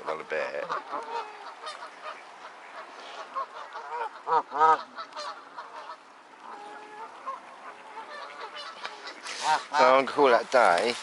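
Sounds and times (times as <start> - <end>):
waterfowl calling: 0.0 - 11.0.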